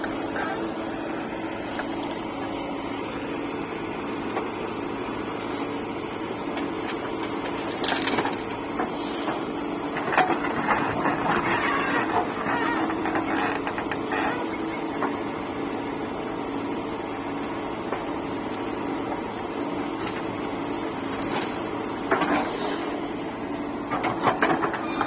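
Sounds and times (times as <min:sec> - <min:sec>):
diesel engine running under load: 0:00.0 - 0:25.0.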